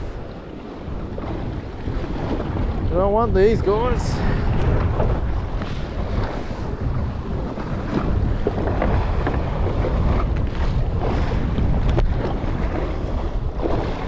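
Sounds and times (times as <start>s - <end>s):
water washing around boat: 0.0s - 14.0s
wind buffeting microphone: 0.0s - 14.0s.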